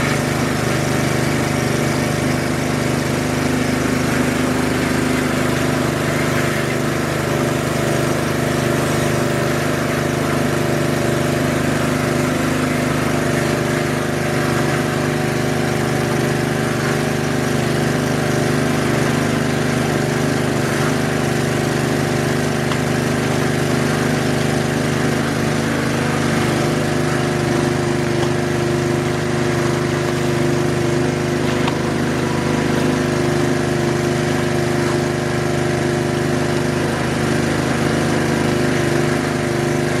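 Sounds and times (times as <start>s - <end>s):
small gasoline engine running: 0.0s - 40.0s.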